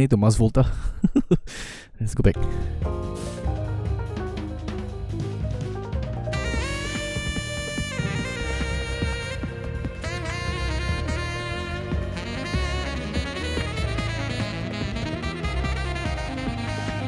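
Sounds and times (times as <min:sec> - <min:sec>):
metal drum kit and bass: 0:02.4 - 0:17.0
saxophone solo: 0:02.8 - 0:17.0.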